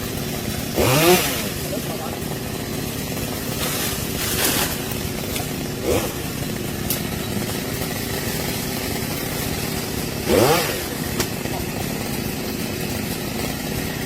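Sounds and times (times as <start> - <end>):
chainsaw engine idling: 0.0 - 14.0
chainsaw throttle blips: 0.0 - 14.0.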